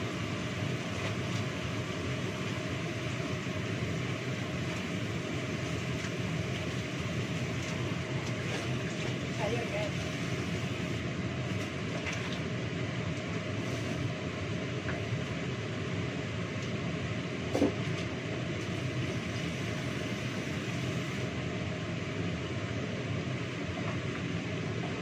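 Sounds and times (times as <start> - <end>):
low rumbling noise: 0.0 - 25.0.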